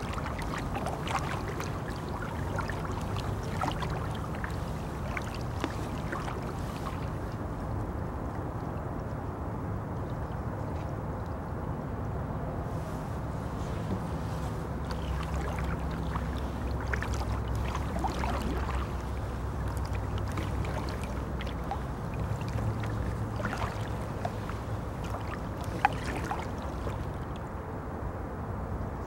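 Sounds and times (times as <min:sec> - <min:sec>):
paddle dipping in water: 0:00.0 - 0:11.5, 0:12.7 - 0:27.6
steady low hum: 0:00.0 - 0:29.0.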